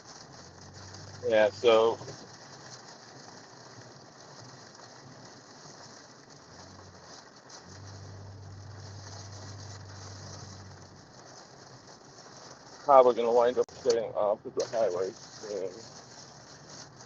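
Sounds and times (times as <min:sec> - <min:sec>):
rain falling on a vehicle: 0:00.0 - 0:17.0.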